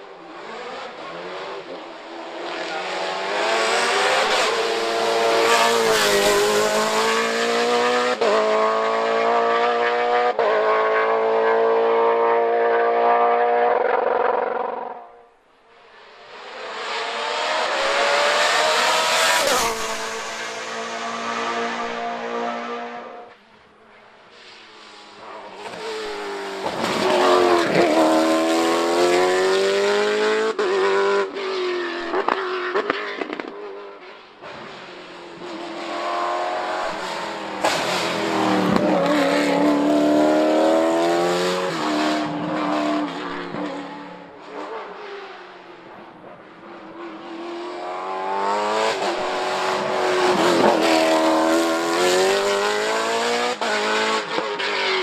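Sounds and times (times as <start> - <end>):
race car engine at high revs: 0.0 - 15.1, 16.2 - 23.3, 25.1 - 55.0.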